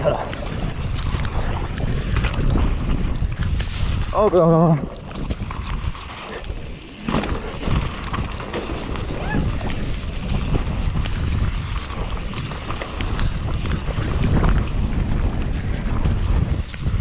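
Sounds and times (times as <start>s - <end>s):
bike rattling and knocking: 0.0s - 17.0s
wind rushing over microphone: 0.0s - 17.0s.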